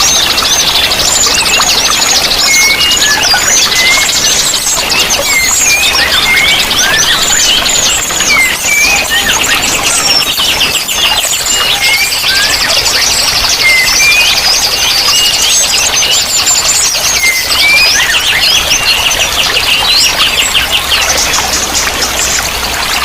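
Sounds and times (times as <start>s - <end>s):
running water: 0.0s - 23.0s
songbirds chirping and twittering: 0.0s - 23.0s.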